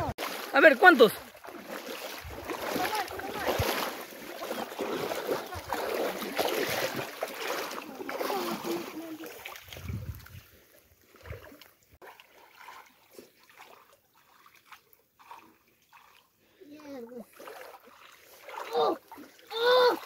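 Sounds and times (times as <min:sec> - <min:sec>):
shallow water splashing: 0:00.0 - 0:20.0.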